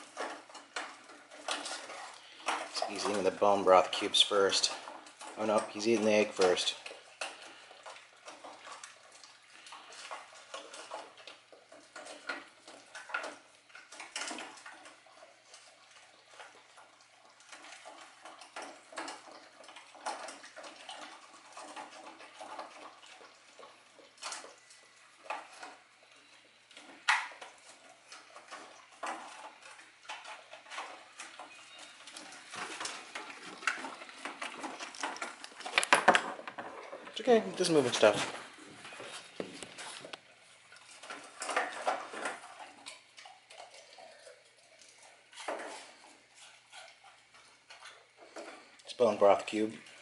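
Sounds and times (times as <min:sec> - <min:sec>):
dog eating from metal bowl: 0:00.0 - 0:50.0.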